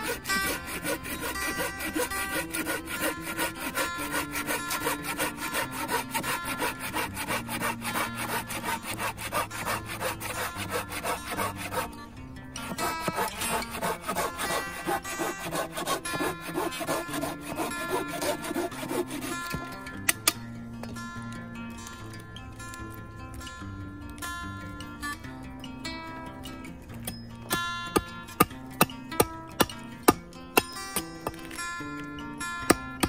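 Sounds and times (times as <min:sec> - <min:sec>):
hand saw cutting log: 0:00.0 - 0:20.4, 0:27.0 - 0:33.0
background music: 0:00.0 - 0:33.0.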